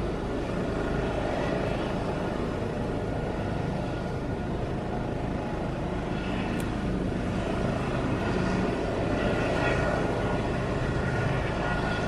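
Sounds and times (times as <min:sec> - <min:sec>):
helicopter rotor and engine rumble: 0:00.0 - 0:12.0.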